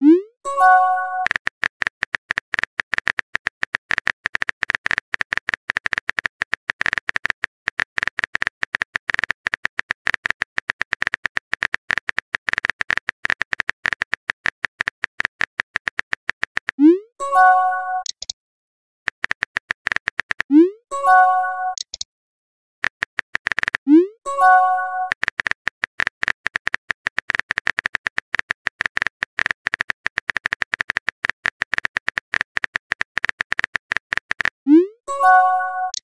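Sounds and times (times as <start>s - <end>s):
keyboard typing clicks: 0.0s - 18.4s, 19.1s - 22.1s, 22.8s - 36.0s.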